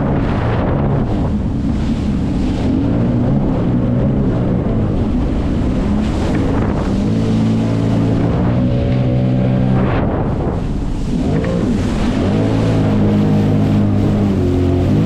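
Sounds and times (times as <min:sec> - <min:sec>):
jet ski engine running: 0:00.0 - 0:15.0
wind buffeting microphone: 0:00.0 - 0:15.0.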